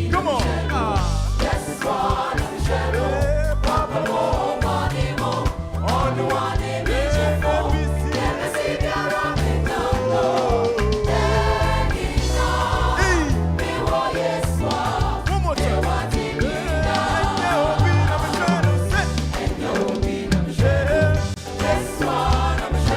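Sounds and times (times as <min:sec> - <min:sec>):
band with bass line: 0:00.0 - 0:22.9
gospel voices singing: 0:00.0 - 0:22.9.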